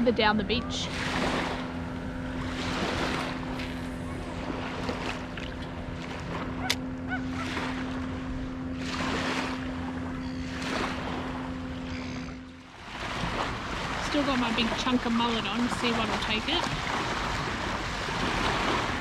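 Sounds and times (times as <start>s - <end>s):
motorboat engine drone: 0.0s - 19.0s
small waves lapping on shore: 0.0s - 19.0s.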